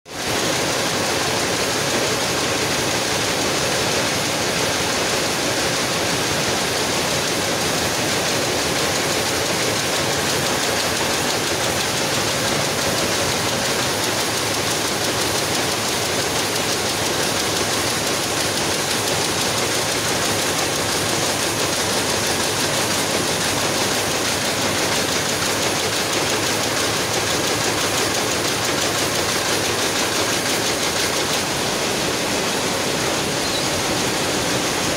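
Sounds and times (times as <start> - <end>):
weaving looms running: 0.1 - 34.9.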